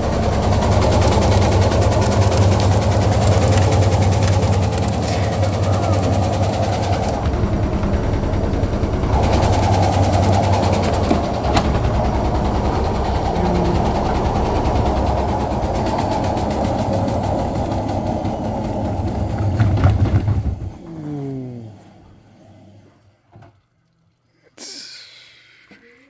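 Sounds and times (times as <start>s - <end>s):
washing machine spinning: 0.0s - 24.3s.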